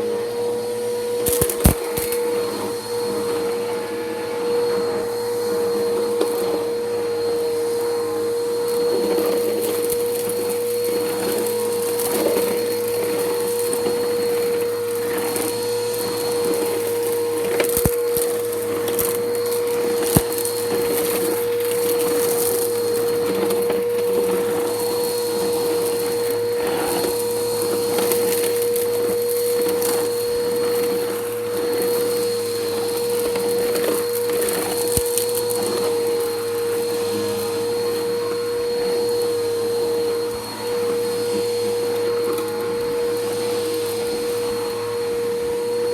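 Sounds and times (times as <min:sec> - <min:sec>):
grit crackling in vacuum: 0:00.0 - 0:45.9
vacuum cleaner motor hum: 0:00.0 - 0:45.9.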